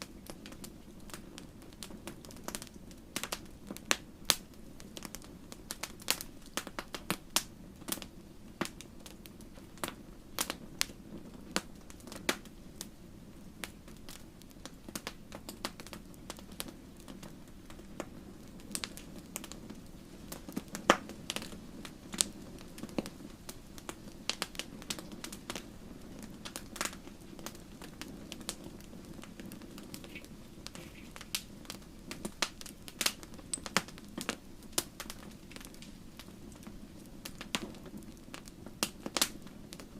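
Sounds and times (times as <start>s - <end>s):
flames hissing: 0.0s - 39.9s
wood fire crackling: 0.0s - 39.9s.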